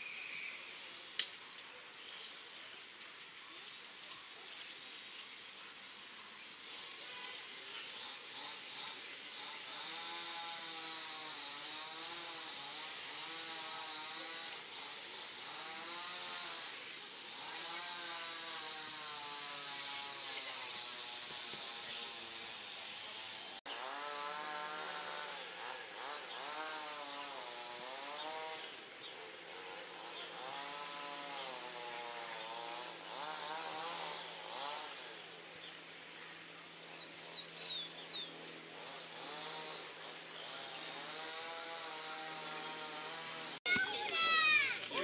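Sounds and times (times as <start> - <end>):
small engine revving: 4.6 - 45.0.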